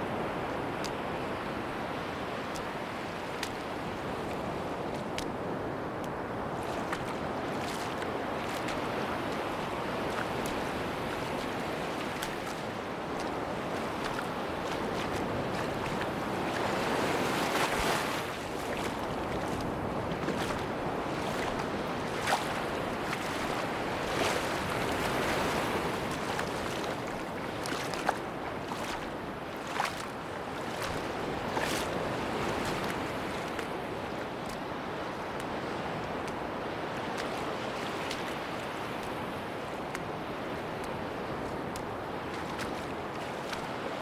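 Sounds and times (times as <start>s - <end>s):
sea waves washing onto beach: 0.0s - 44.0s.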